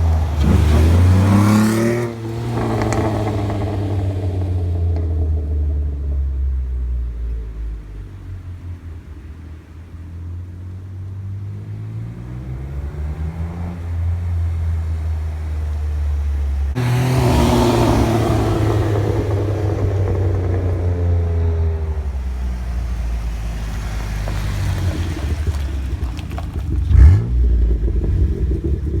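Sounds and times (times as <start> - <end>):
engine exhaust drone: 0.0 - 29.0.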